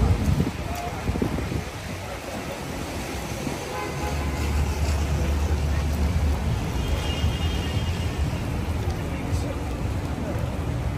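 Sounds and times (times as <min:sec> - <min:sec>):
hiss of rain and tyres: 0:00.0 - 0:10.9
traffic rumble: 0:00.0 - 0:10.9.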